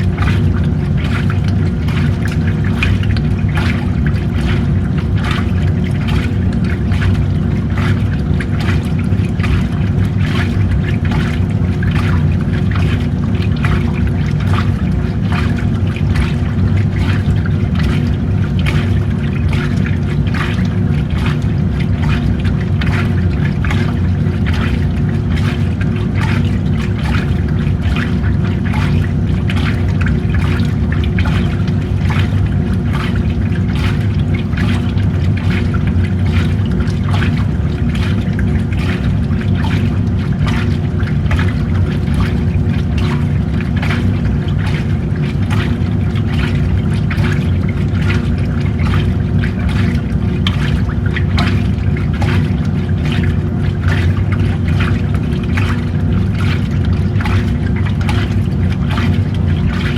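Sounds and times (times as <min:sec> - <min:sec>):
washing machine motor humming: 0:00.0 - 0:59.9
water splashing and sloshing: 0:00.0 - 0:59.9.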